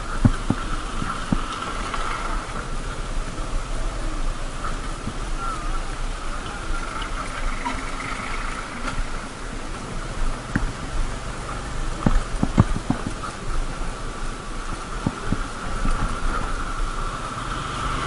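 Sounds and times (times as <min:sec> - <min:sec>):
motorcycle engine: 0:00.0 - 0:18.0
road rumble: 0:00.0 - 0:18.0
wind noise: 0:00.0 - 0:18.0.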